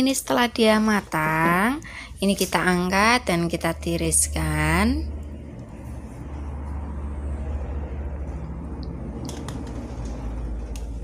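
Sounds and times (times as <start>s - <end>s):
low rumble with faint hiss: 0.0s - 11.0s.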